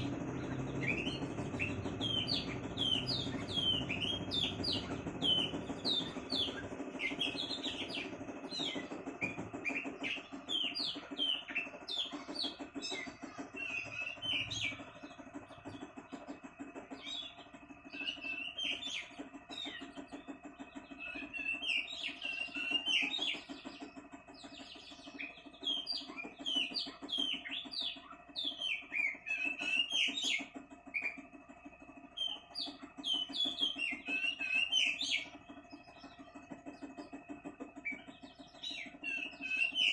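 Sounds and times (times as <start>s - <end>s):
steady low hum: 0.0s - 39.9s
bird singing chirps and whistles: 0.3s - 15.8s, 16.9s - 31.3s, 32.1s - 39.9s.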